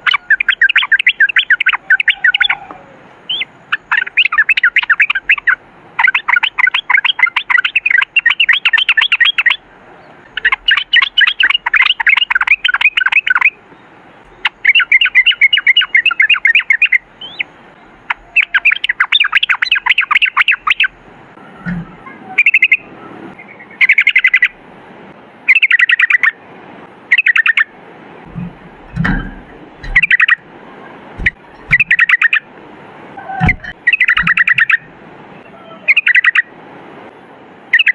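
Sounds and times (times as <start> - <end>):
bird singing rolling chattering phrases: 0.0 - 36.6, 37.6 - 37.9.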